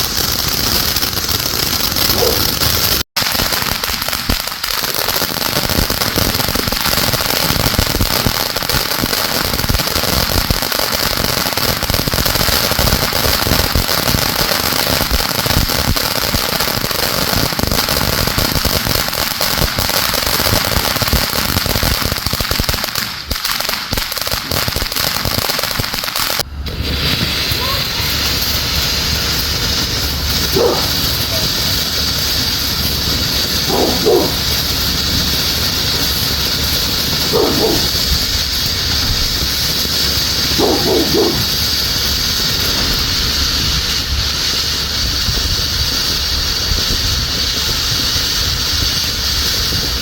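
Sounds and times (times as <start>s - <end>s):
fireworks and firecrackers banging: 0.0s - 50.0s.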